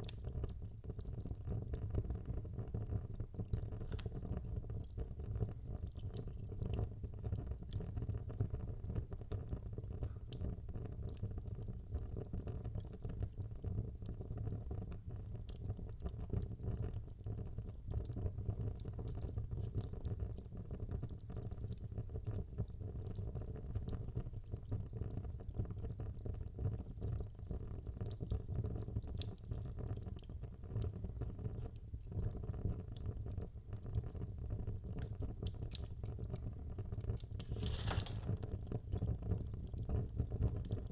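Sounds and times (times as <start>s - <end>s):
burning logs crackling: 0.0s - 40.9s
low rumble of flames: 0.0s - 40.9s.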